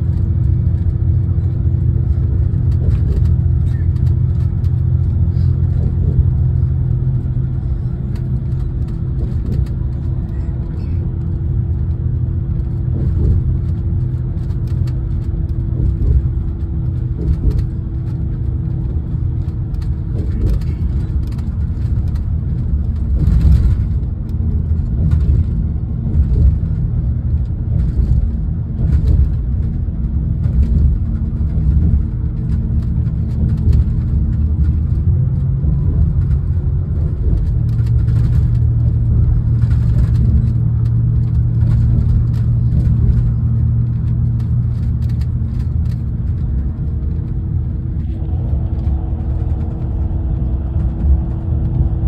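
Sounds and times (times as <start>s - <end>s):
constant hum: 0.0s - 52.0s
vehicle engine and tyre rumble: 0.0s - 52.0s.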